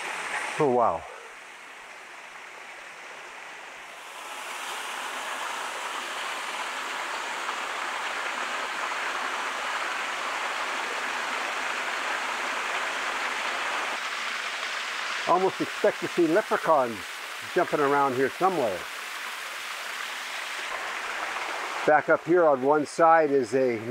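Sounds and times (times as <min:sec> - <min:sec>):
small waterfall splashing: 0:00.0 - 0:23.9.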